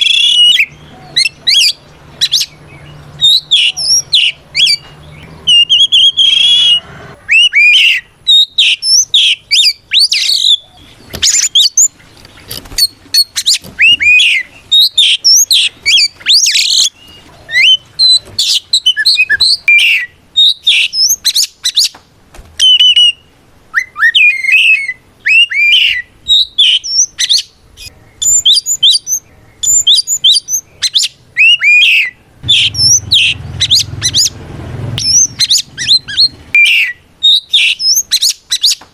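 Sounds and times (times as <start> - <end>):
songbird whistling song: 0.0 - 22.0, 22.6 - 38.9.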